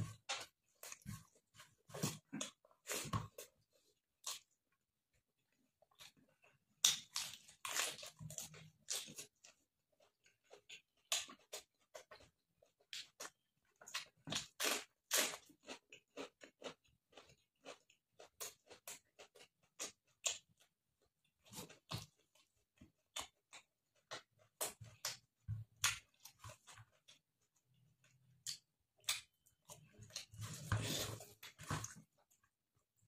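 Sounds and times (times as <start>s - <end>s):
person chewing with crunches: 0.0s - 4.6s, 5.5s - 32.6s.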